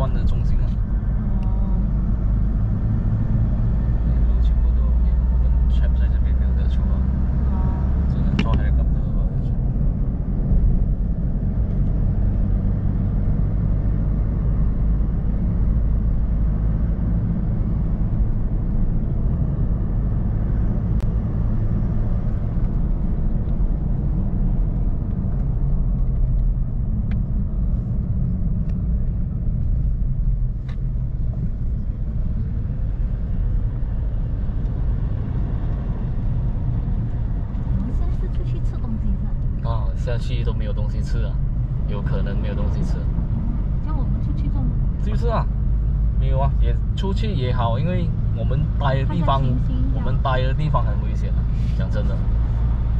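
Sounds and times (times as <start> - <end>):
vehicle engine droning: 0.0 - 52.9.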